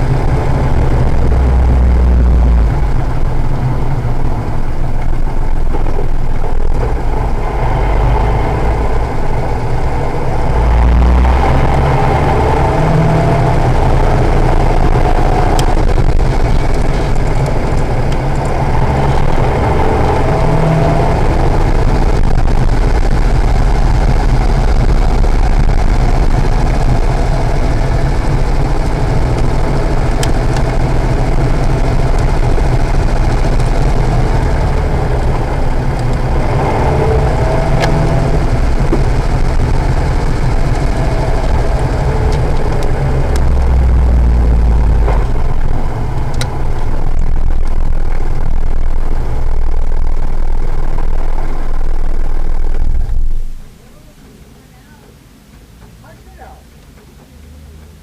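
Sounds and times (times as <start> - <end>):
car engine running steadily: 0.0 - 58.0.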